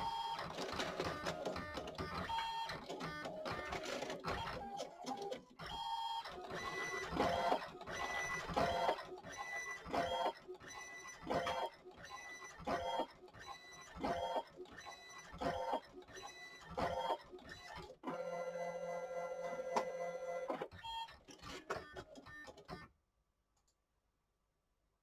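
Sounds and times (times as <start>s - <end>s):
printer mechanical cycle: 0.0s - 22.8s.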